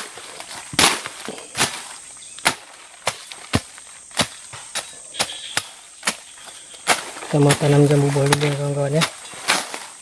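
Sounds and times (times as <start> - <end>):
hand tool chopping into ground: 0.0 - 10.0.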